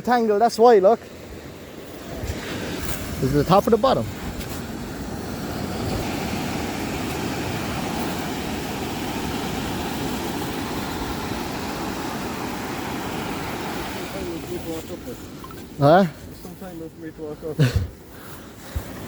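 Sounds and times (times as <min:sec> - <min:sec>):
sea surf: 0:00.0 - 0:19.0
wind: 0:00.0 - 0:19.0.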